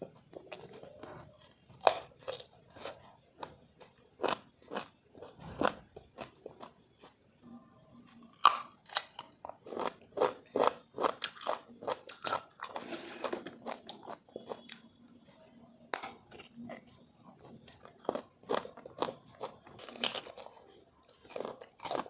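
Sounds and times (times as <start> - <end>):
person crunching and chewing fruit: 0.1 - 7.2, 7.9 - 14.9, 15.8 - 22.0.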